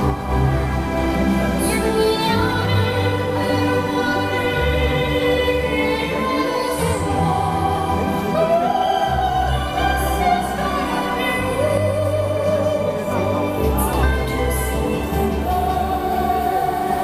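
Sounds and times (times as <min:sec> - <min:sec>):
operatic singing with orchestra: 0:00.0 - 0:17.0.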